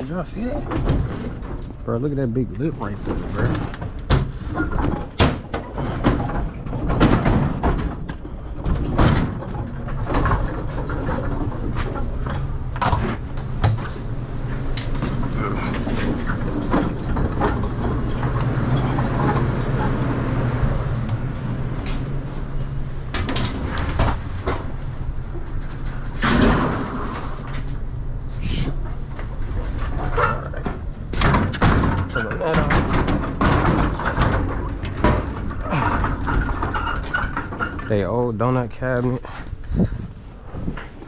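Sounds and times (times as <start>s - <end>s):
clanks and rattles on lift gate: 0.0s - 27.9s, 28.9s - 38.2s
steady low hum: 0.0s - 41.0s.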